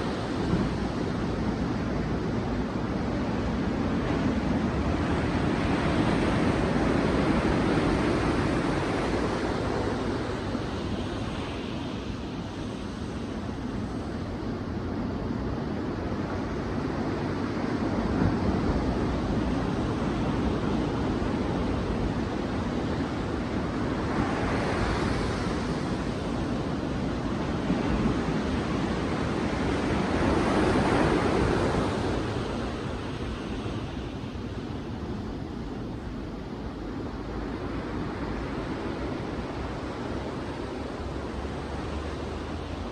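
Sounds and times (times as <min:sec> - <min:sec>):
sea waves breaking on beach: 0:00.0 - 0:42.9.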